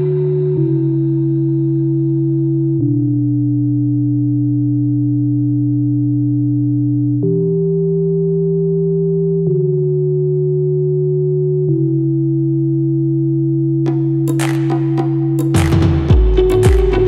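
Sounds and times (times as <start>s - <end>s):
held synthesizer chords: 0.0s - 17.0s.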